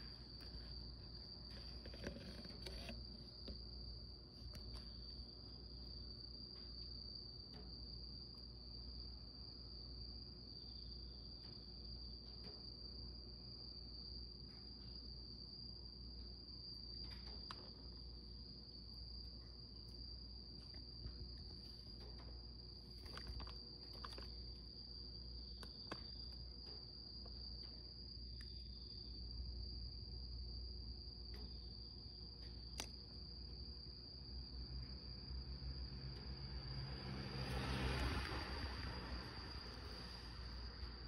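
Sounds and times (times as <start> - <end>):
crickets chirring: 0.0 - 41.0.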